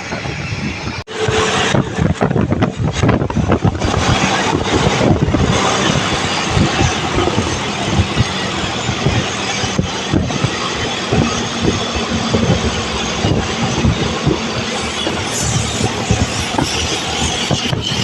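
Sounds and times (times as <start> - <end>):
road noise: 0.0 - 18.0
wind buffeting microphone: 0.0 - 18.0
vehicle engine running: 1.1 - 18.0.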